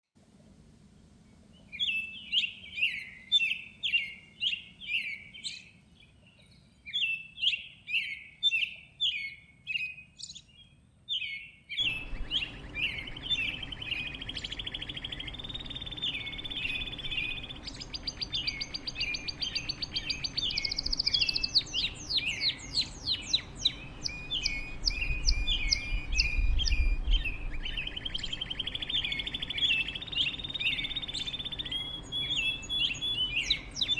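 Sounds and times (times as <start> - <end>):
background hiss: 0.2 - 33.9
songbirds chirping: 0.2 - 33.9.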